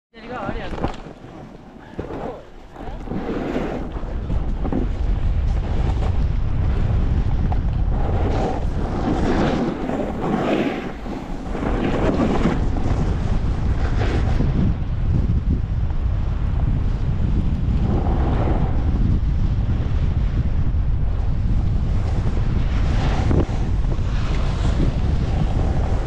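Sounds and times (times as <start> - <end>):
wind buffeting microphone: 0.2 - 26.0
snowboard scraping over snow: 0.3 - 26.0.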